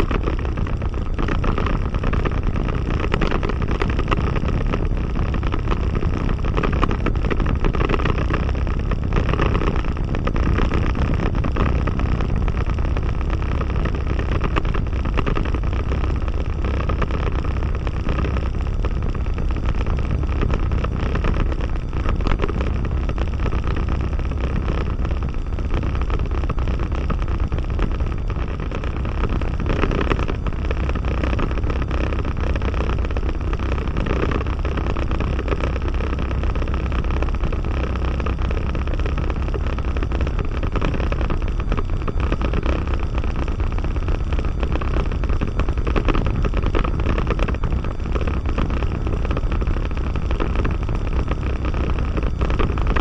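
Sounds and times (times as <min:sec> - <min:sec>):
aircraft engine low rumble: 0:00.0 - 0:53.0.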